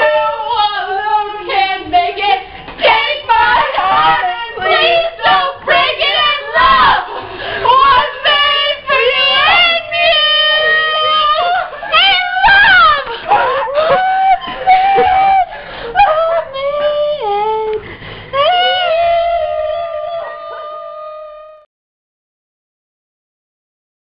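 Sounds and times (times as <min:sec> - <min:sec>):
women singing a pop song: 0:00.0 - 0:20.5.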